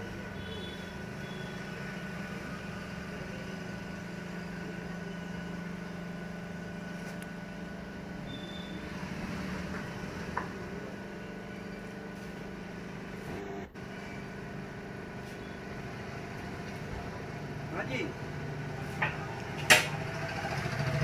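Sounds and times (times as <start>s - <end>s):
baler motor and pump humming: 0.0s - 21.0s.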